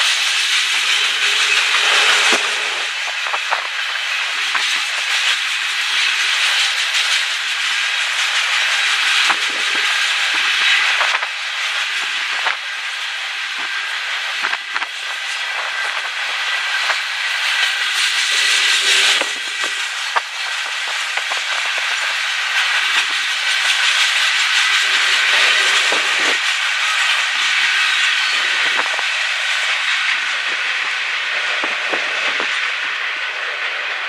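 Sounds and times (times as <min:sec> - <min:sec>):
steel wheels rolling on rail: 0:00.0 - 0:34.0.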